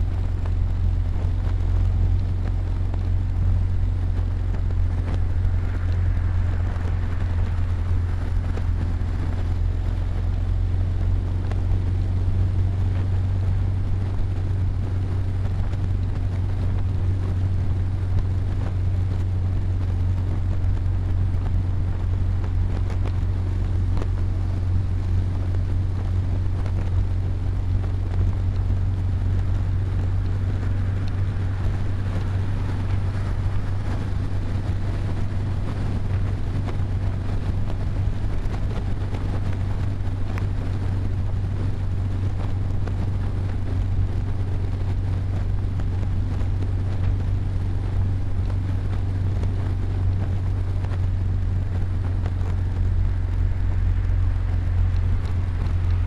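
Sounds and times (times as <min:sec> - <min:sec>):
road and engine rumble inside car: 0:00.0 - 0:56.0.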